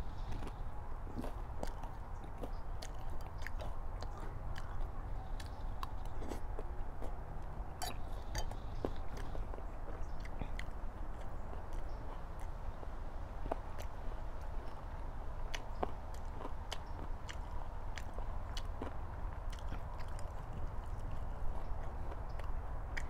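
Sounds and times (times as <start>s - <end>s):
person chewing: 0.2s - 23.0s.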